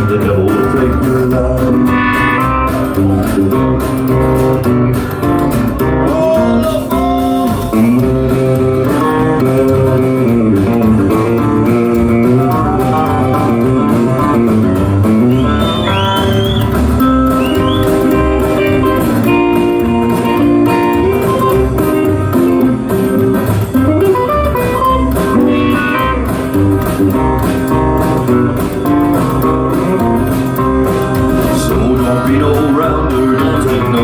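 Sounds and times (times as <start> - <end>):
lead guitar bending notes: 0.0 - 34.0
live band playing: 0.0 - 34.0.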